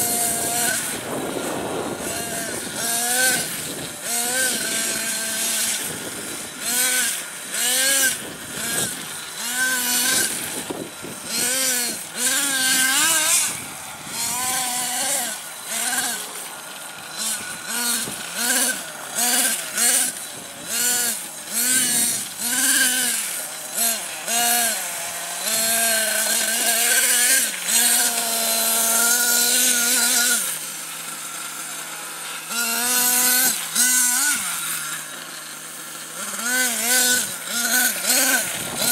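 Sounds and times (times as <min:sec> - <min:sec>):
model truck engine revving: 0:00.0 - 0:38.9.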